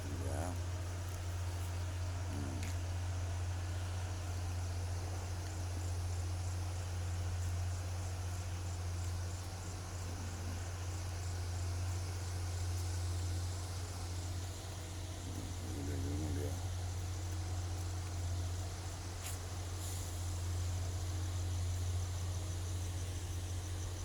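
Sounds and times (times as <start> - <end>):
insects chirping: 0.0 - 24.0
steady low hum: 0.0 - 24.0.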